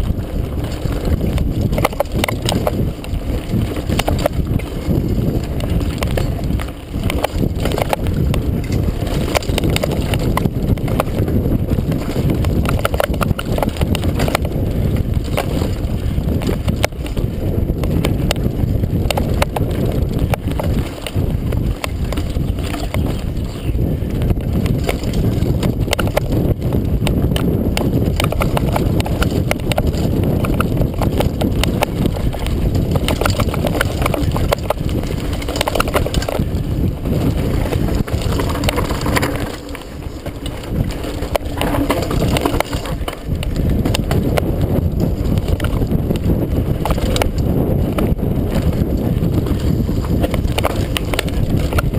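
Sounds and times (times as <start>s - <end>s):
bike rattling and knocking: 0.0s - 51.9s
bike tyres rumbling on dirt: 0.0s - 51.9s.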